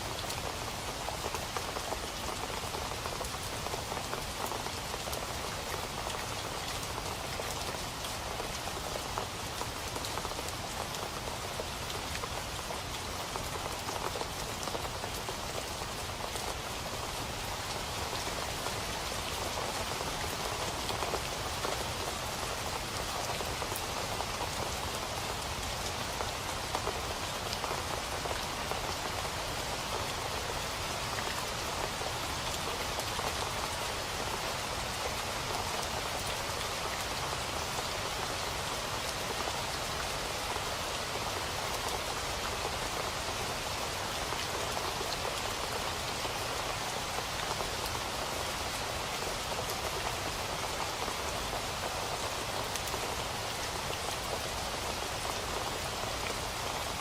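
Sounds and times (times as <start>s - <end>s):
rain on a hard surface: 0.0s - 57.0s.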